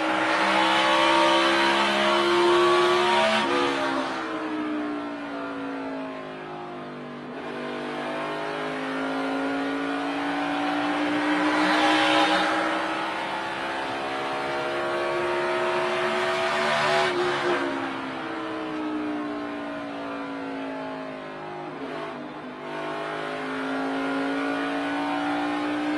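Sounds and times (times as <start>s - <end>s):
race car engine at full throttle: 0.0s - 25.9s.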